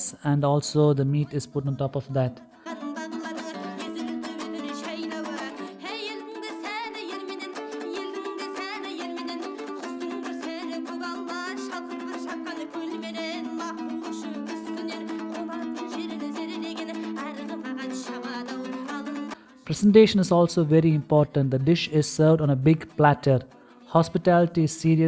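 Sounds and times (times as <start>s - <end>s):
plucked string instrument melody: 0.8s - 25.0s.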